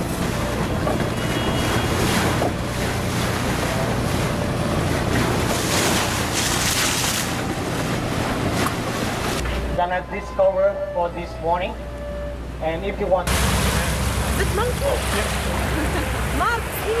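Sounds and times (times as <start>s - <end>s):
low engine drone: 0.0s - 17.0s
water rushing along hull: 0.0s - 17.0s.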